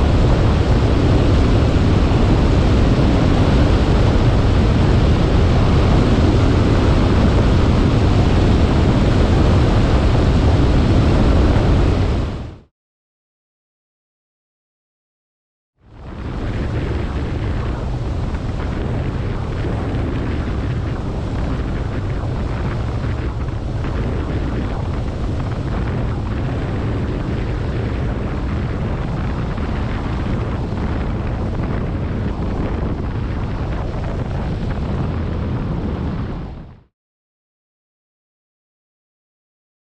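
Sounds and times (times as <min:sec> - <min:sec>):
wind buffeting microphone: 0:00.0 - 0:12.7, 0:15.9 - 0:36.9.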